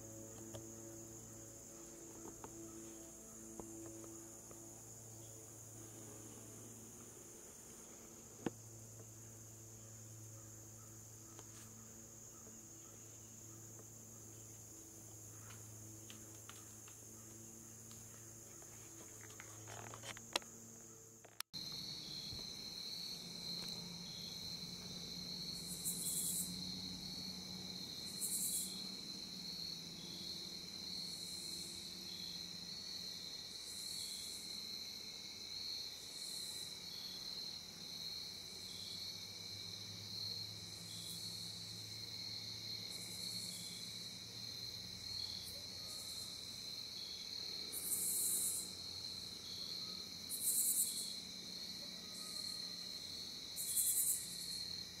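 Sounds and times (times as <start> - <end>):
high-pitched insect buzzing call: 0.0 - 39.2, 40.1 - 55.0
insects trilling: 0.0 - 55.0.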